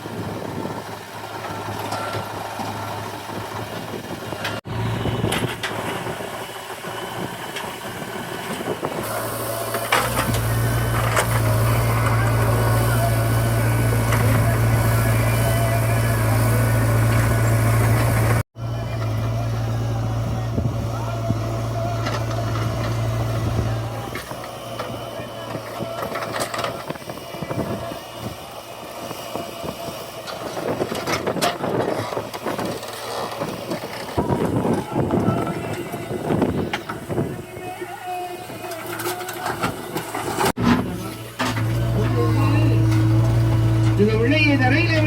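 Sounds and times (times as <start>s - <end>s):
diesel engine humming: 0.0s - 45.0s.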